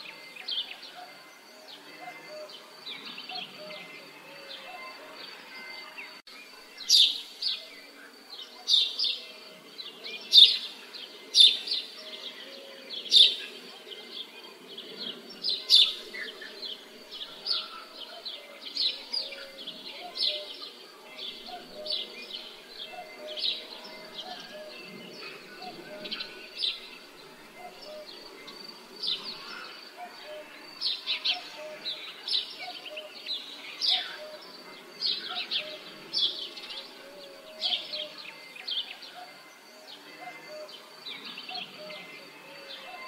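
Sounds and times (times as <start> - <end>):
bird chirping: 0.0 - 43.0
village ambience murmur: 0.0 - 43.0.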